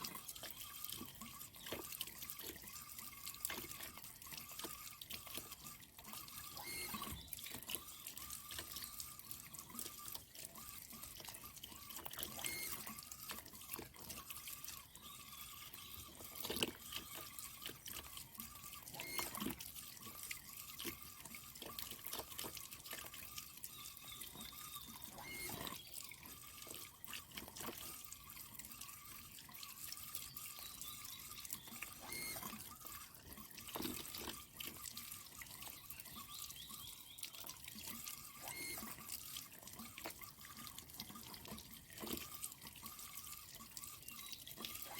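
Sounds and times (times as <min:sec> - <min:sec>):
water dripping and trickling: 0:00.0 - 0:44.9.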